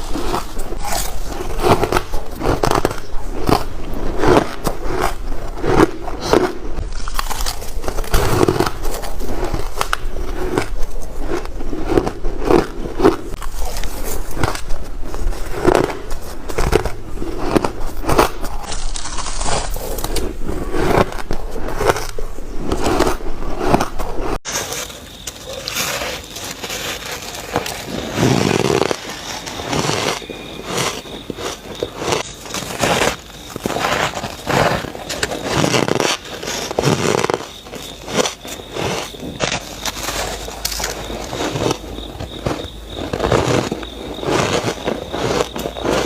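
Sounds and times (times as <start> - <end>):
shaved ice being chewed: 0.0 - 46.0.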